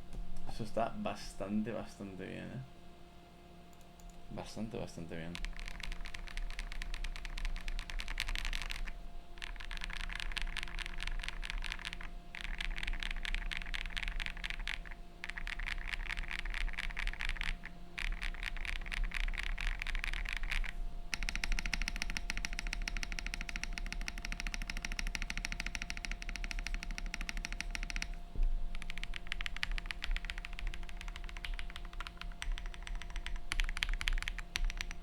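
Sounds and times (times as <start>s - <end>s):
fast mechanical keyboard typing: 5.0s - 35.0s.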